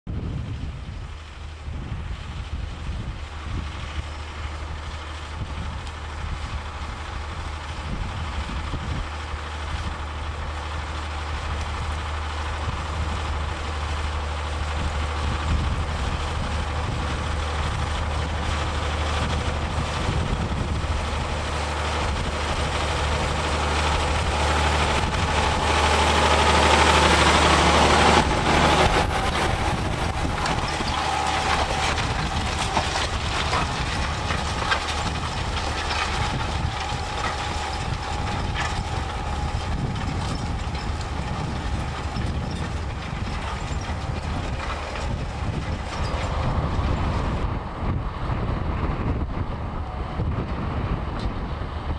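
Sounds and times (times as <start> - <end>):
tractor diesel engine under load: 0.1 - 51.9.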